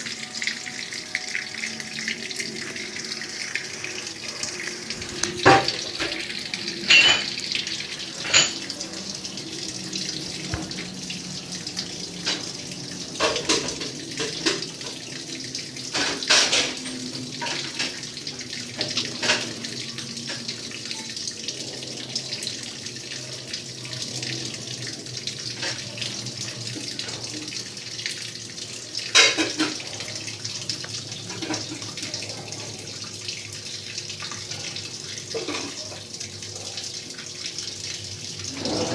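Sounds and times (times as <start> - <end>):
water swishing in washing machine: 0.0 - 38.9.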